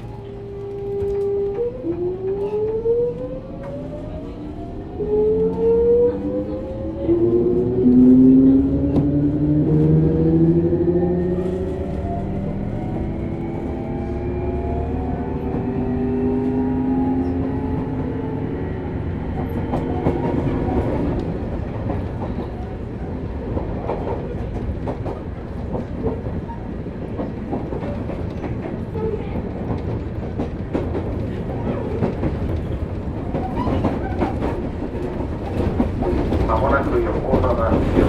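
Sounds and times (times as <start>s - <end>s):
train wheel rumble: 0.0s - 38.0s.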